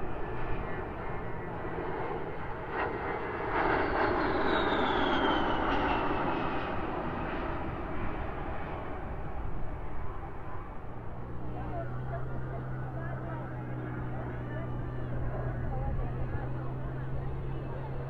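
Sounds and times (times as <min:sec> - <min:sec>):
military aircraft engine roar: 0:00.0 - 0:18.0.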